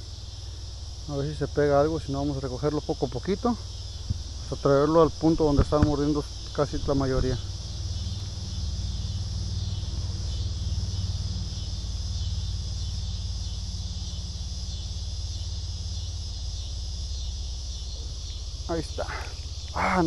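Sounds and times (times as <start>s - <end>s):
insects chirring: 0.0s - 20.0s
low steady rumble: 0.0s - 20.0s.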